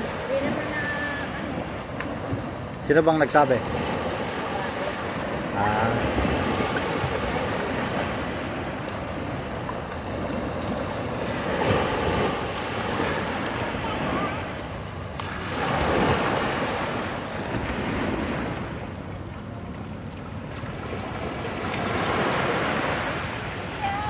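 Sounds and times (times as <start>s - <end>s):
waves breaking on a beach: 0.0s - 24.0s.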